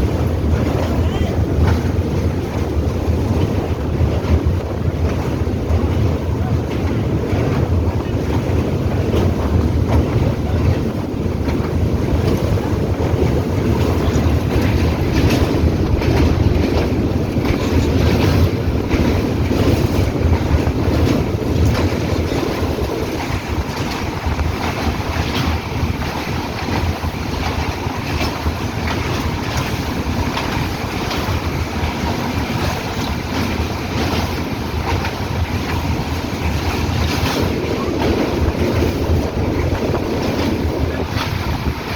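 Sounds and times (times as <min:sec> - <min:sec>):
train wheels rumbling on rail: 0:00.0 - 0:41.9
wind rushing over microphone: 0:00.0 - 0:41.9.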